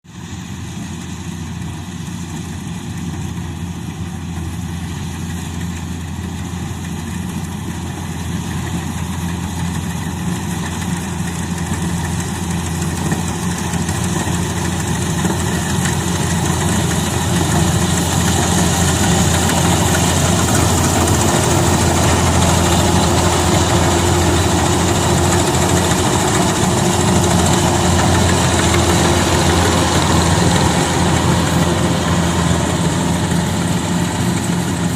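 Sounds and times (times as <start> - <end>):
combine harvester engine running: 0.1 - 34.9.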